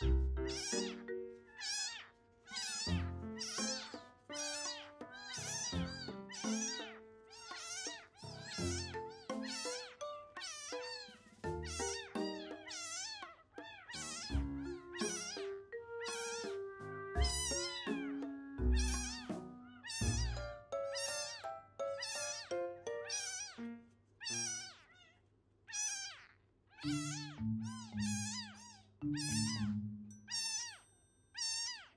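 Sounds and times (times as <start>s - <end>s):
background music with held notes: 0.0s - 13.2s, 13.9s - 24.4s, 26.8s - 30.3s
kitten mewing: 0.0s - 23.6s, 24.2s - 29.7s, 30.3s - 30.8s, 31.4s - 31.9s.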